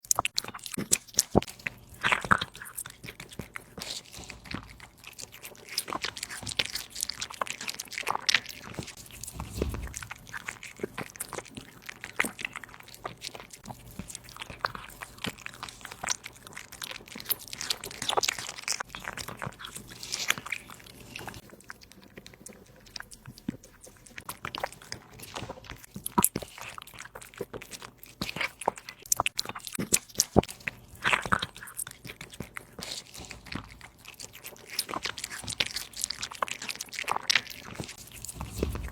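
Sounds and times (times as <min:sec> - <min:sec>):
kitten chewing food: 0:00.0 - 0:38.9.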